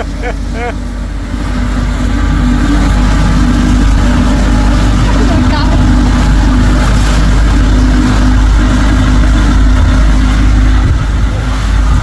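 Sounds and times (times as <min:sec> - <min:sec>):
motorboat engine humming: 0:00.0 - 0:12.0
water rushing: 0:00.0 - 0:12.0.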